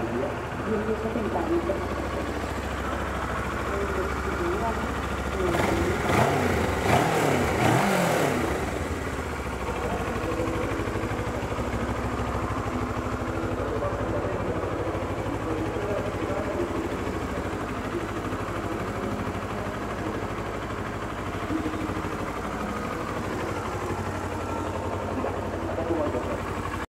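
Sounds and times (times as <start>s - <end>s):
motorcycle engine idling: 0.0s - 26.9s.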